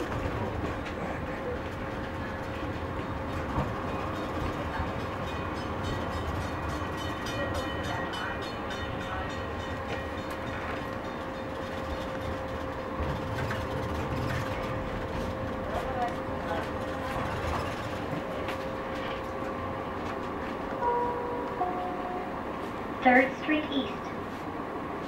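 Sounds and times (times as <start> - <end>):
wheels rumbling on rail: 0.0 - 25.0.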